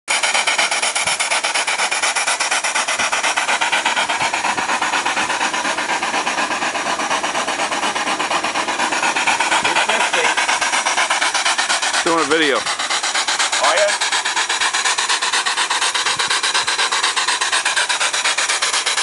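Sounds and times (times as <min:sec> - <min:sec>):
steam engine chuffing: 0:00.0 - 0:19.0.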